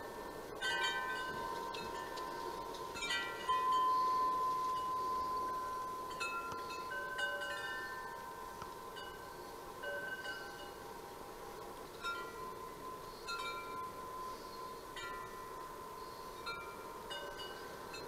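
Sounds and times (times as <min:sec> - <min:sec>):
chime-like ringing tones: 0:00.0 - 0:10.9, 0:12.0 - 0:18.0.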